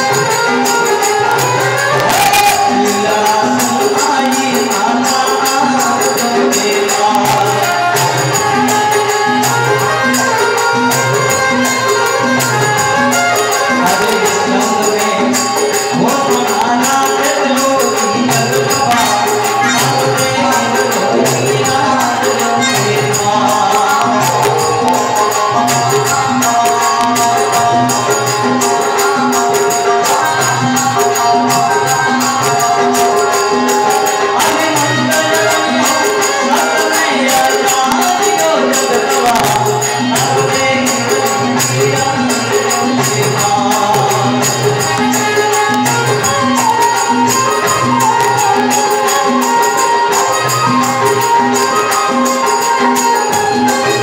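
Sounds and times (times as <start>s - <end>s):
dholak drum beat: 0.0s - 54.0s
harmonium: 0.0s - 54.0s
jingling hand percussion: 0.0s - 54.0s.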